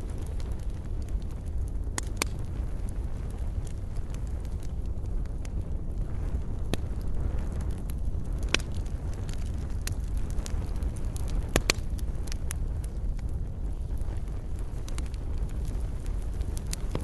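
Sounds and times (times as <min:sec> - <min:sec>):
campfire low rumble: 0:00.0 - 0:17.0
wood crackling and popping: 0:00.0 - 0:17.0.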